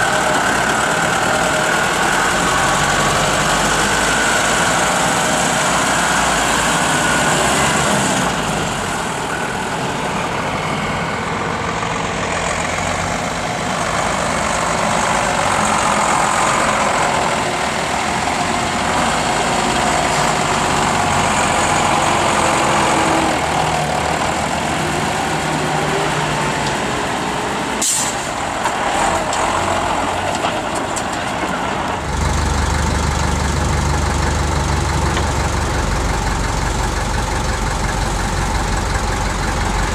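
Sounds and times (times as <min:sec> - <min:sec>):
diesel truck engines under load: 0:00.0 - 0:39.9.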